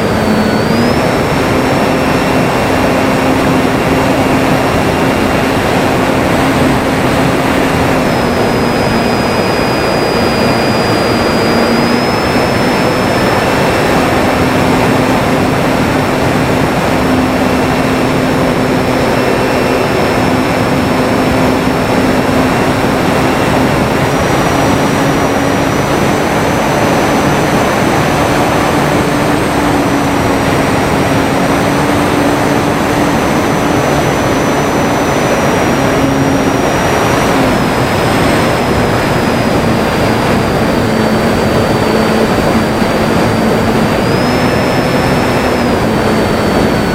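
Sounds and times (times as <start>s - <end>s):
model plane propeller droning: 0.0s - 46.9s
wind on microphone: 0.0s - 46.9s.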